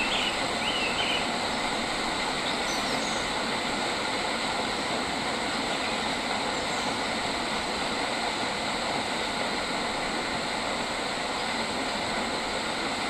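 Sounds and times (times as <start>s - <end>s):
even outdoor hiss: 0.0s - 13.0s.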